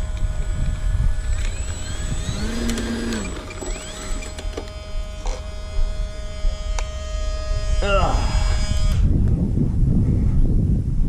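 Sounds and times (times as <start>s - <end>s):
electric motor and propeller whine: 0.0s - 10.5s.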